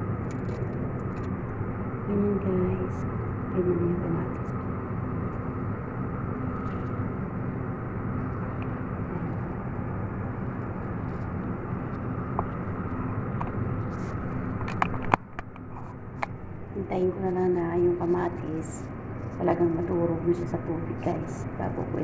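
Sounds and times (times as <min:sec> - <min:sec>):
kitchen machinery hum: 0:00.0 - 0:22.0.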